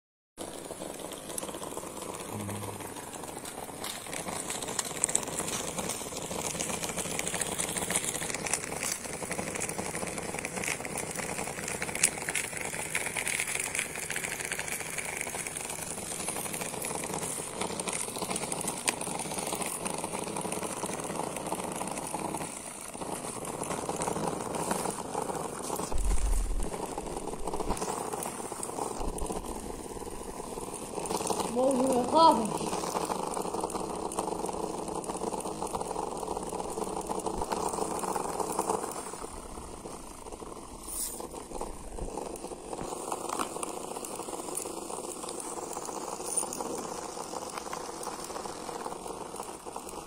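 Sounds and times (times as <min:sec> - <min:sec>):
small electric motor running: 0:00.5 - 0:50.0.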